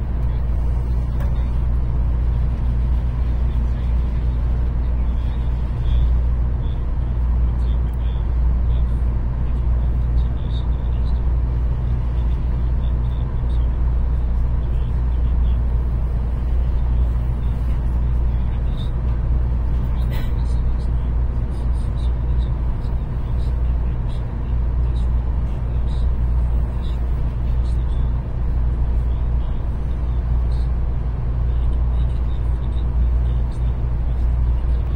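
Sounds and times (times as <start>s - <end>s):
train low rumble: 0.0s - 34.9s.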